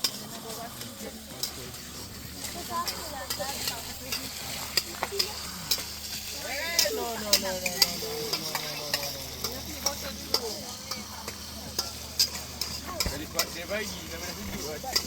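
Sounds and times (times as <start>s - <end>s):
food sizzling: 0.0s - 15.0s
metal utensil clinking: 1.3s - 15.0s.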